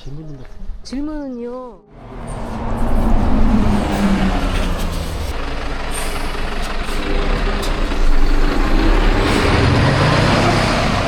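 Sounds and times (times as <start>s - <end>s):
bus engine passing: 1.9s - 11.0s.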